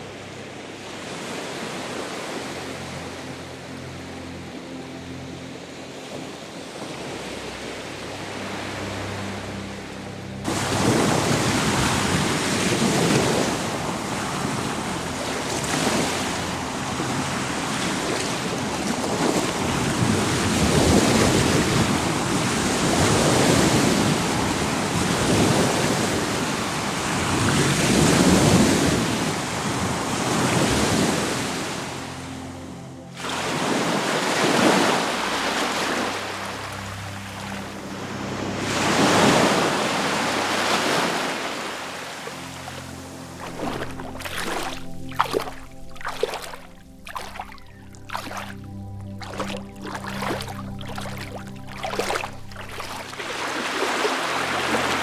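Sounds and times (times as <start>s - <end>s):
soft wash of water: 0.0s - 55.0s
waves breaking on shore: 0.0s - 55.0s.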